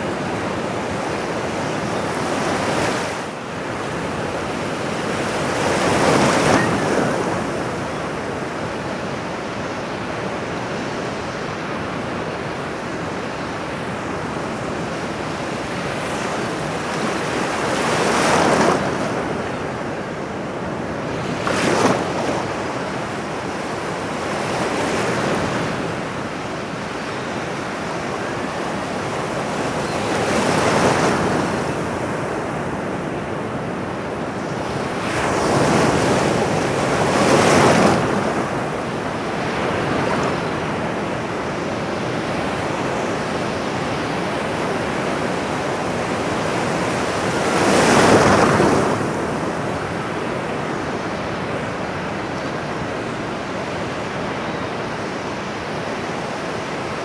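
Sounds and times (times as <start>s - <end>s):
ocean surf on shore: 0.0s - 57.0s.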